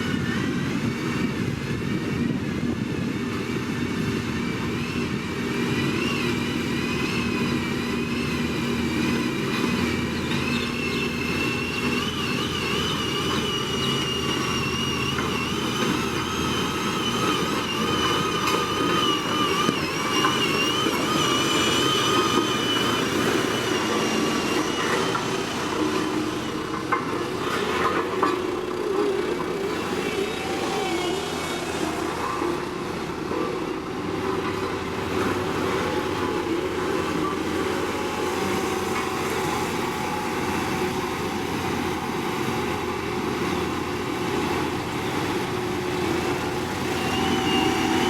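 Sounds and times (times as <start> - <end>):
diesel construction machinery rumbling: 0.0 - 48.0.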